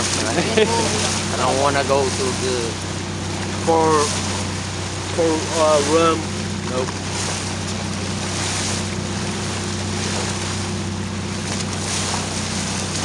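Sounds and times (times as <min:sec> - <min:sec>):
boat engine hum: 0:00.0 - 0:13.0
water rushing along hull: 0:00.0 - 0:13.0.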